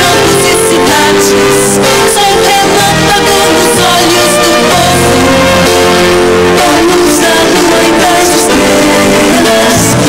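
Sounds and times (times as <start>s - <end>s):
theme song with held notes: 0.0s - 10.0s.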